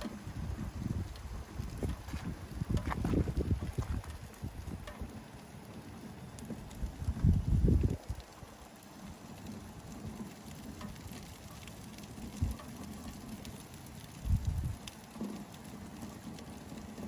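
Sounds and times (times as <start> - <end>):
rain dripping and pattering: 0.0 - 17.0.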